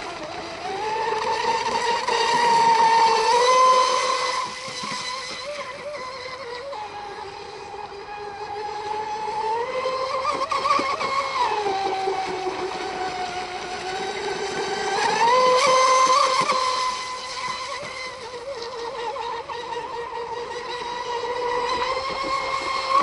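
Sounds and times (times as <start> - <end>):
model boat motor whining: 0.0 - 23.0.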